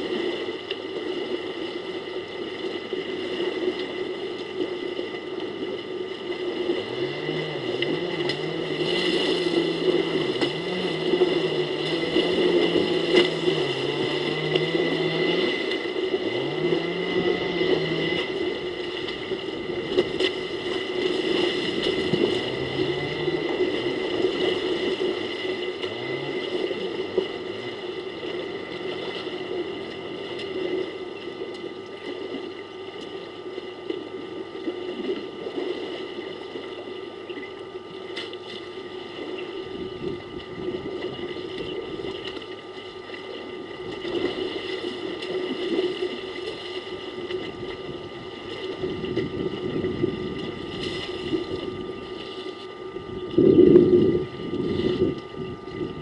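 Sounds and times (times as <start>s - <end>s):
steady hum: 0.0s - 56.0s
water sloshing and splashing: 0.0s - 56.0s.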